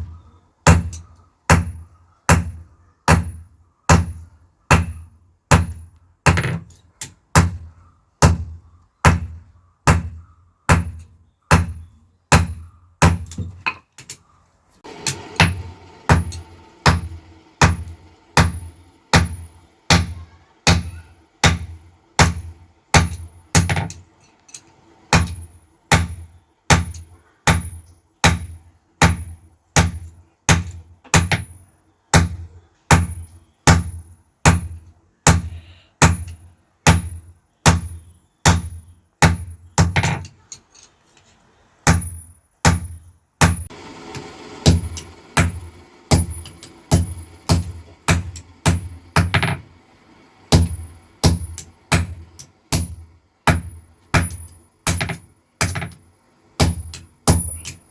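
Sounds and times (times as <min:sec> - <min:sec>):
hammer striking iron on anvil: 0:00.7 - 0:13.8, 0:14.9 - 0:24.0, 0:25.1 - 0:40.4, 0:41.9 - 0:43.8, 0:44.6 - 0:49.7, 0:50.5 - 0:56.0, 0:56.6 - 0:57.9.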